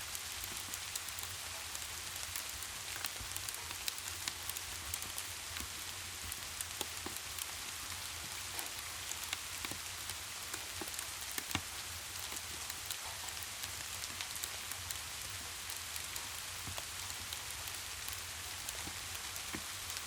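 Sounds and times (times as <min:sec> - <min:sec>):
rain hiss: 0:00.0 - 0:20.0
sharp ticks and pops: 0:00.4 - 0:07.6, 0:08.2 - 0:15.0, 0:15.7 - 0:20.0.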